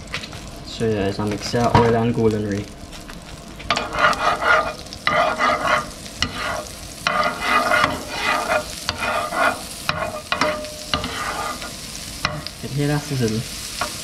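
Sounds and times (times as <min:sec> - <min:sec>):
oil and margarine sizzling in a pan: 0:00.0 - 0:14.0.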